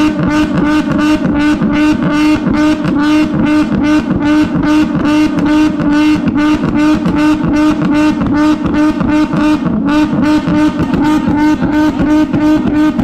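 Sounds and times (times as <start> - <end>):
engine bouncing off rev limiter: 0.0 - 13.0.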